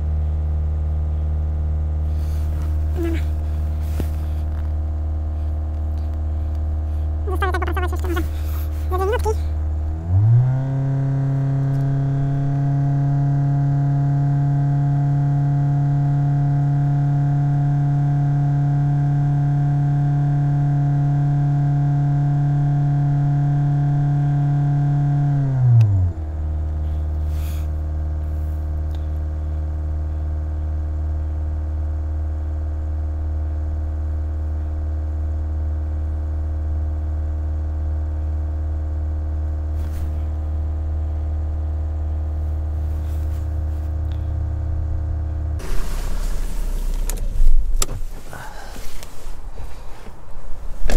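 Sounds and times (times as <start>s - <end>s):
diesel engine revving then idling: 0.0s - 30.6s, 39.1s - 50.9s.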